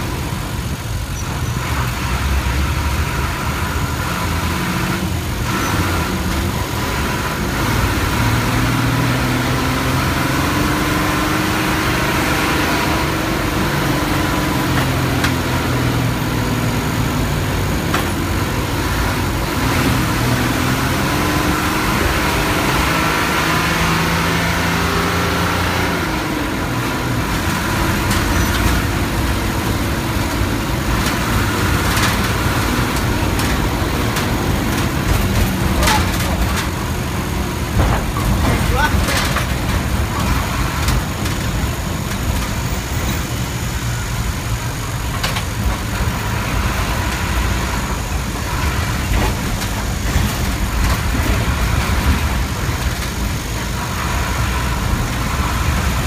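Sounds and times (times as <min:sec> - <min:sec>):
bus engine: 0:00.0 - 0:56.0
road noise: 0:00.0 - 0:56.0.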